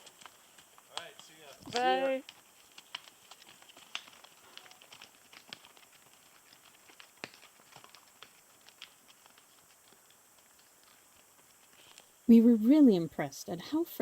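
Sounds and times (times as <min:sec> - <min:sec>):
horse hooves on rocky trail: 0:00.0 - 0:14.0.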